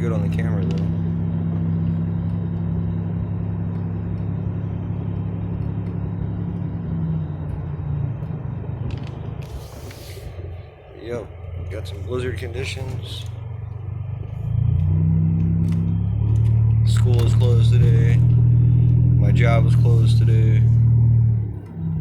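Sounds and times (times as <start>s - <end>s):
car engine drone: 0.0s - 22.0s.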